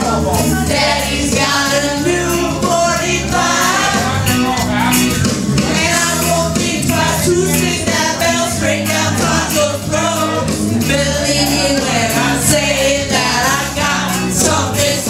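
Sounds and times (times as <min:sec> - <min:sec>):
women singing along: 0:00.0 - 0:04.6, 0:05.6 - 0:15.0
rock backing track: 0:00.0 - 0:15.0.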